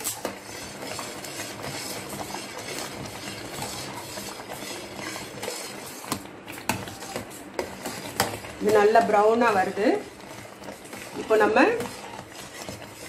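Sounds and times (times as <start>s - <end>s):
ladle clinking and scraping pot: 0.0s - 13.0s.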